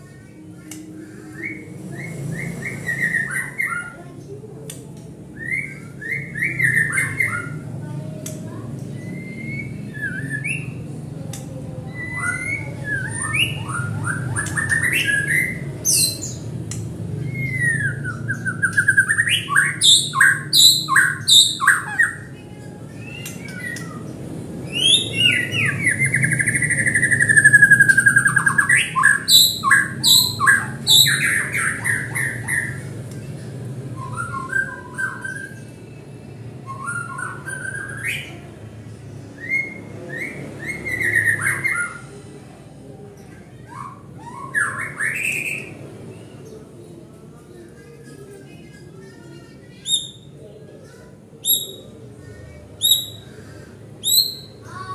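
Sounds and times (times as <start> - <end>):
bird singing varied song: 0.0 - 38.7, 39.4 - 42.1, 43.1 - 47.0, 47.7 - 54.9.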